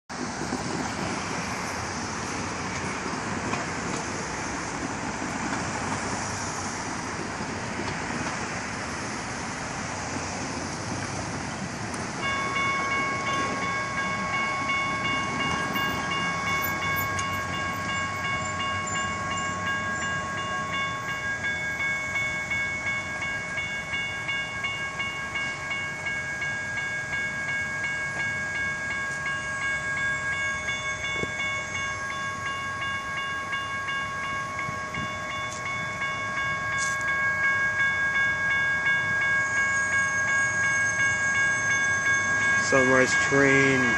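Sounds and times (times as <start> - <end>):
street noise: 0.1 - 43.9
railroad crossing bell ringing: 0.6 - 43.9.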